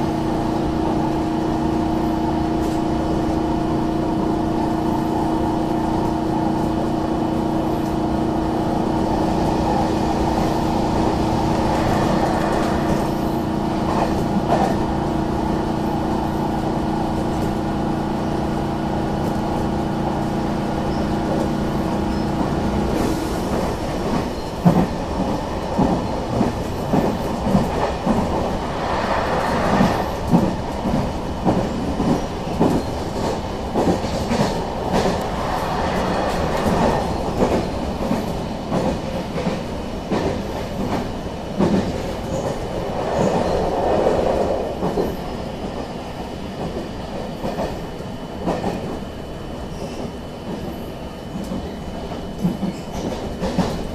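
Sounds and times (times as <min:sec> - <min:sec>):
train steady hum: 0:00.0 - 0:53.9.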